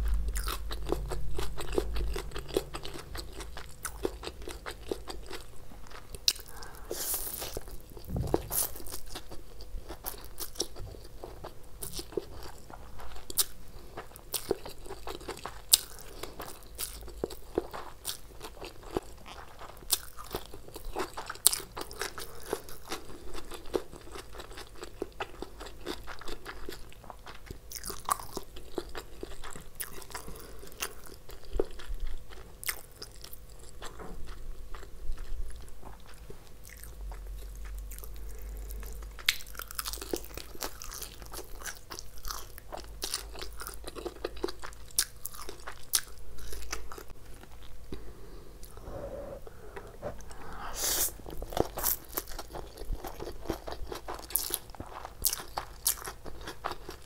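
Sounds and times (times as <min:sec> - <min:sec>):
chewing with wet mouth sounds: 0:00.0 - 0:48.0, 0:50.2 - 0:57.0.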